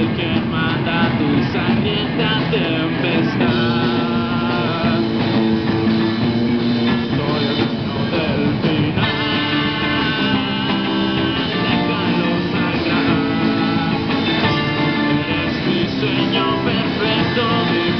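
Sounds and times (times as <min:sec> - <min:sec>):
drum kit: 0:00.0 - 0:17.9
electric guitars: 0:00.0 - 0:17.9.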